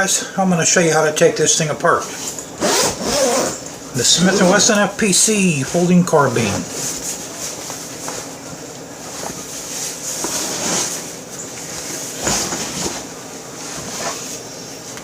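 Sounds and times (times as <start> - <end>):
rustling handling noise: 1.9 - 15.0.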